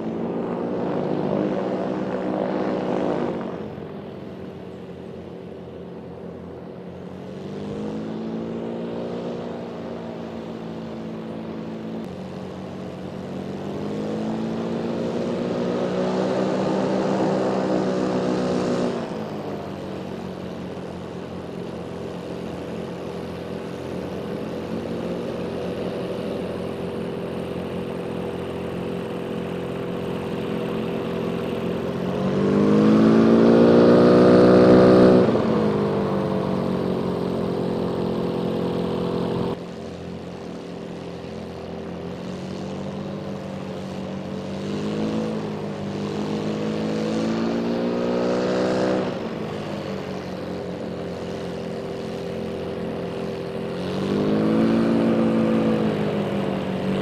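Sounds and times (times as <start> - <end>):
drone propeller engine: 0.0 - 57.0.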